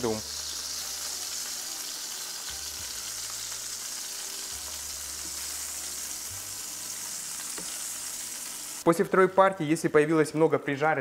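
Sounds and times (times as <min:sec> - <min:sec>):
meat sizzling in a pan: 0:00.0 - 0:08.9.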